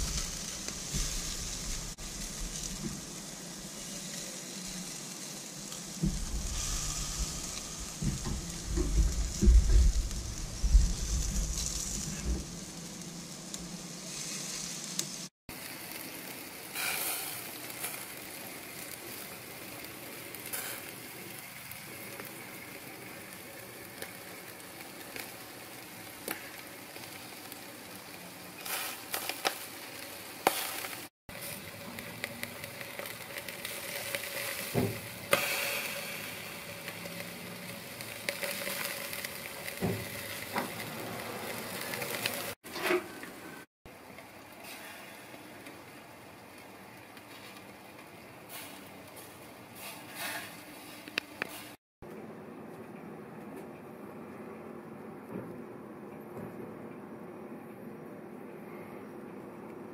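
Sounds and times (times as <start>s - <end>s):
chicken sizzling on grill: 0.0s - 51.8s.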